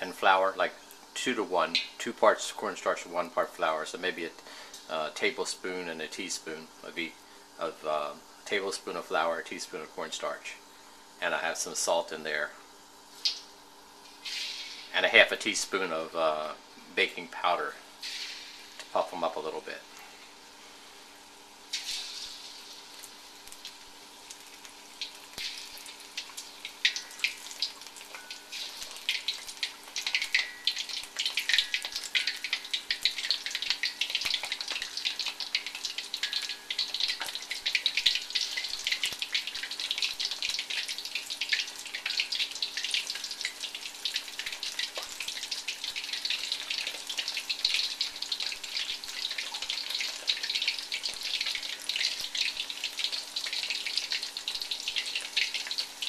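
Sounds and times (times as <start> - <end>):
shrimp sizzling in hot oil: 0.0 - 7.6, 12.8 - 15.7, 17.5 - 56.0.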